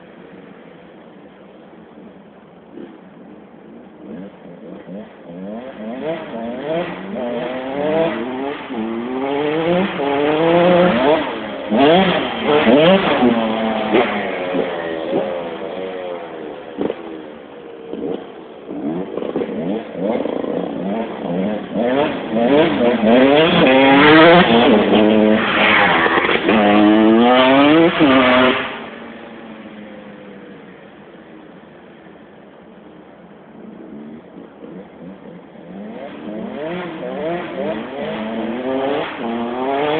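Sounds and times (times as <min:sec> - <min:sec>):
motorcycle engine revving: 0:02.0 - 0:39.9.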